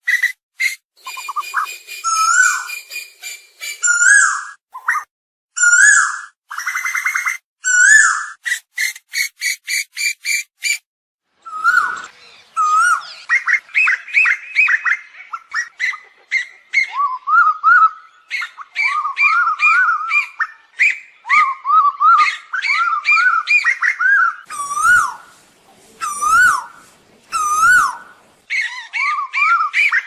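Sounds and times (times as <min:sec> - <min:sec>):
birds whistling calls: 0:00.0 - 0:10.8, 0:11.4 - 0:25.4, 0:26.0 - 0:30.0.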